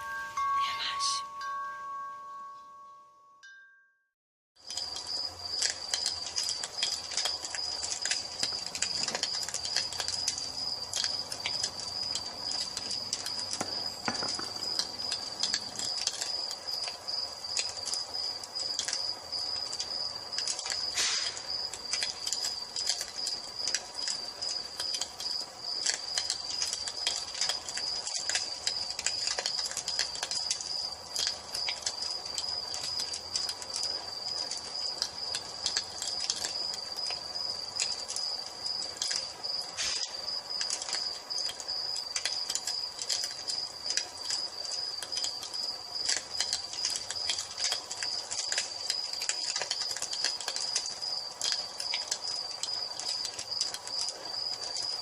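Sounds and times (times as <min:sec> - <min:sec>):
crickets chirping: 0:00.0 - 0:03.7, 0:04.6 - 0:55.0
wood fire crackling: 0:04.6 - 0:55.0.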